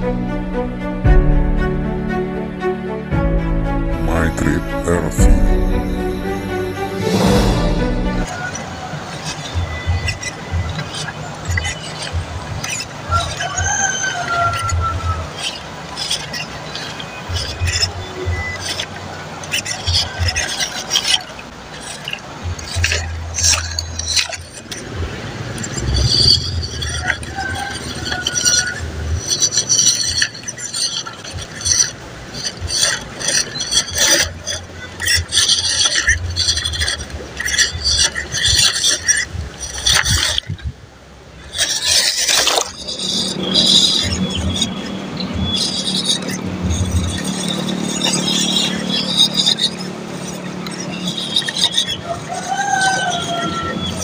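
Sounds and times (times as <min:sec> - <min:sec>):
water splashing: 0:06.2 - 0:54.0
small electric motor and gears: 0:08.2 - 0:54.0.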